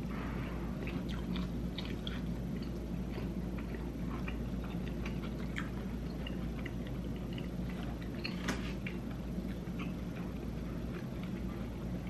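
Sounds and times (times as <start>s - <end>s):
steady low hum: 0.0s - 12.0s
person chewing food: 0.7s - 12.0s.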